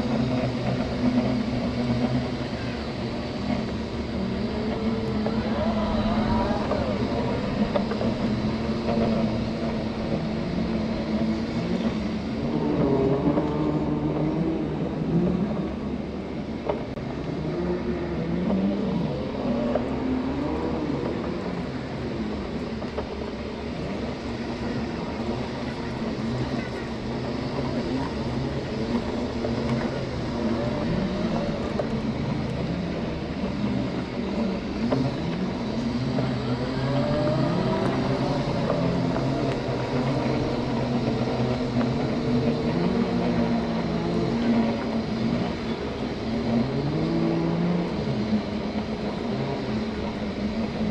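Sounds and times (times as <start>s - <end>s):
steady rough rumble: 0.0s - 50.9s.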